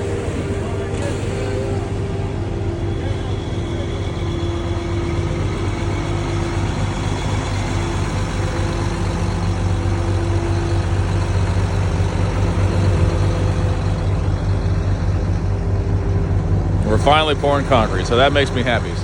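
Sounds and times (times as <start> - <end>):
diesel truck engines humming: 0.0 - 19.0.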